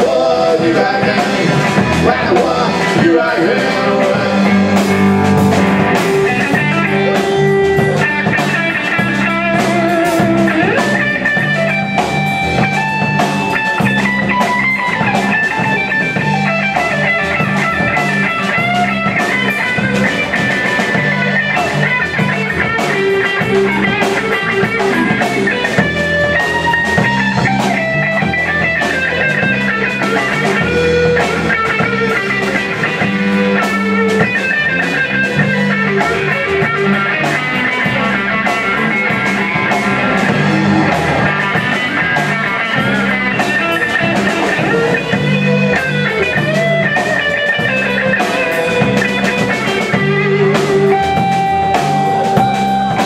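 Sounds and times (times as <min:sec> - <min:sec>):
drum kit: 0:00.0 - 0:53.0
electric guitar lead line: 0:00.0 - 0:53.0
rhythm guitar: 0:00.0 - 0:53.0.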